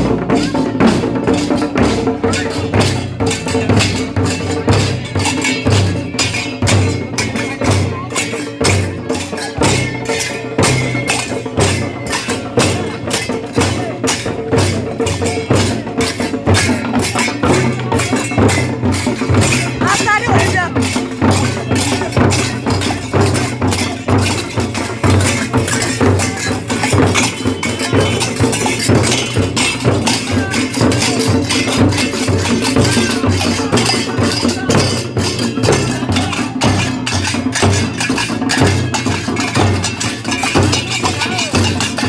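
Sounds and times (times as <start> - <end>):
drumming: 0.0 - 42.0
hand cymbals clashing: 0.0 - 42.0.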